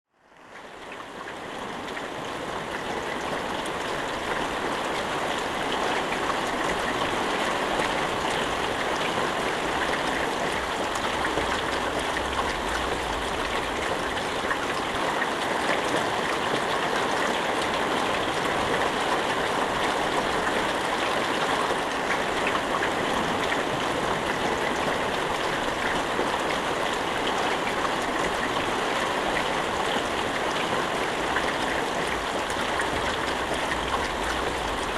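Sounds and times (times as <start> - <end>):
steady rain hiss: 0.7 - 34.9.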